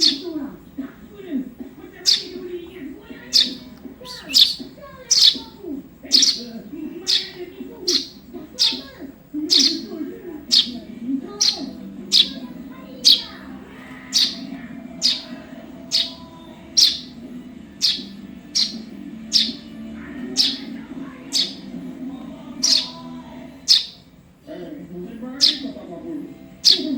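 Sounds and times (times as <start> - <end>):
low background murmur: 0.0 - 26.9
sparrow chirping: 0.0 - 26.9.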